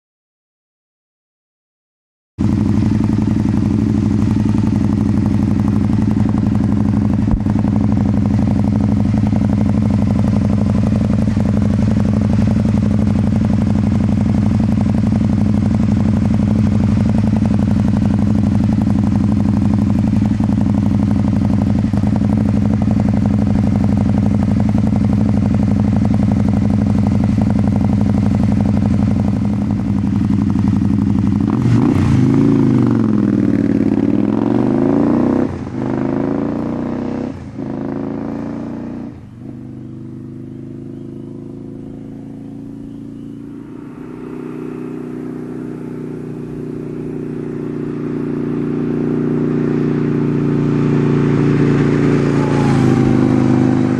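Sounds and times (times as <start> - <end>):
motorcycle engine idling and revving: 2.4 - 53.9.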